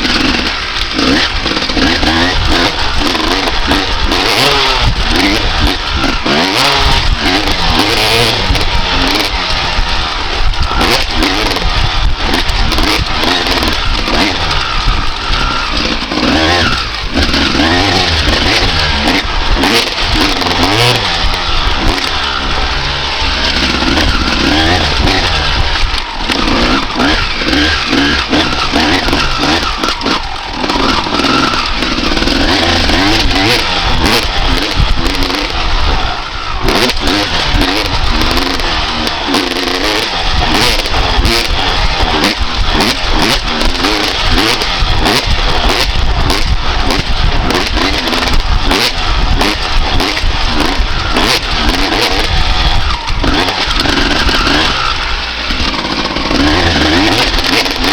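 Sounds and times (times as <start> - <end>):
two-stroke motorcycle engine revving: 0.0 - 57.9.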